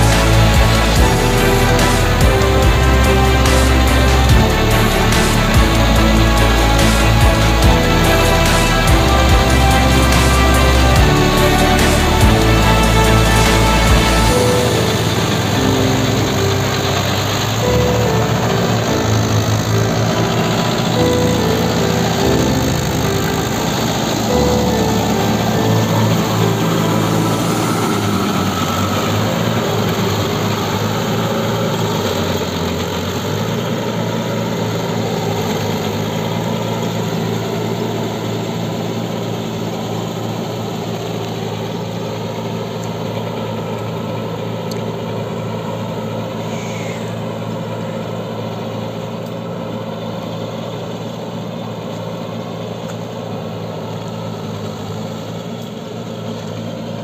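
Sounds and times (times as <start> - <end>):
rotary tiller churning mud: 0.0 - 46.4
tractor diesel engine running: 0.0 - 57.0.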